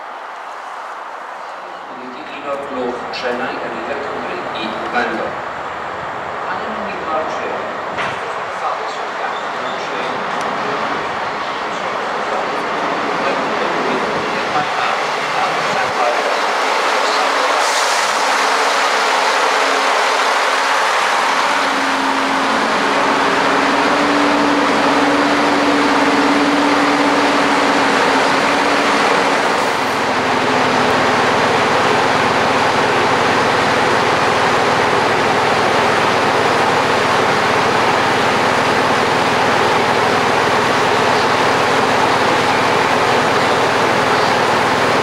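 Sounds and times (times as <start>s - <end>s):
train running past: 0.0s - 45.0s.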